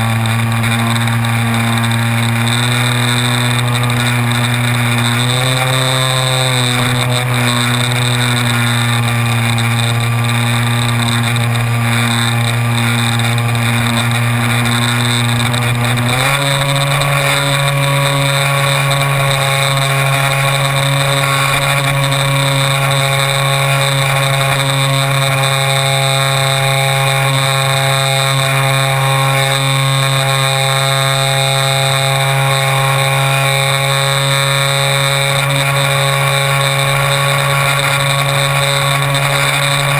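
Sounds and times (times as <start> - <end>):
electric motor droning whine: 0.0 - 39.9.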